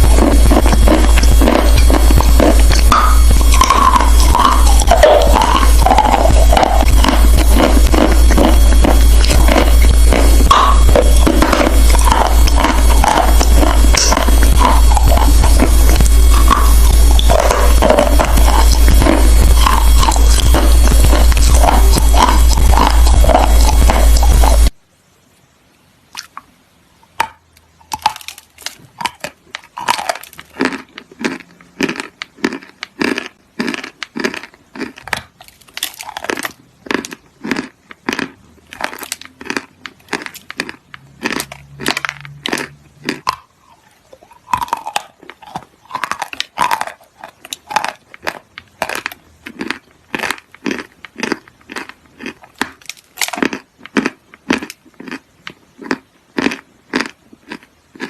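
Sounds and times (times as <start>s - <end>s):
crisp crunching: 0.0s - 24.7s, 27.9s - 55.2s.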